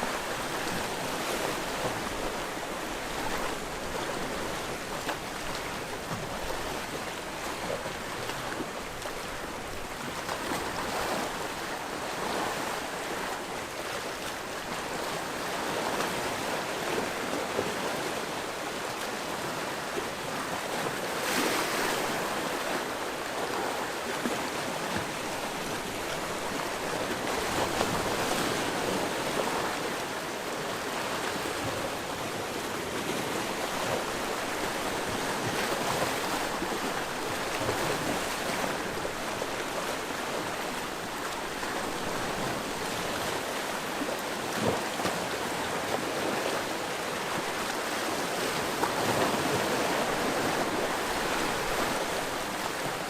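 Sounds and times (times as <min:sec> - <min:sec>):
sea waves washing on shore: 0:00.0 - 0:53.0
waves splashing: 0:00.0 - 0:53.0.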